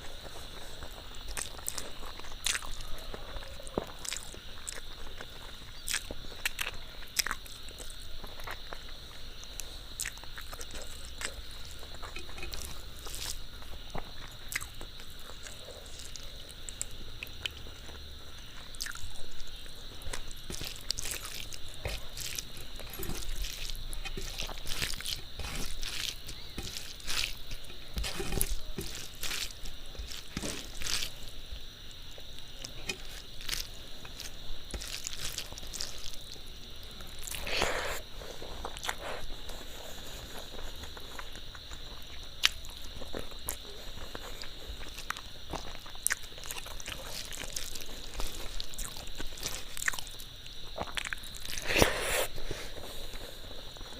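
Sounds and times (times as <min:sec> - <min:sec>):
wet chewing and lip smacks: 0:00.5 - 0:53.9.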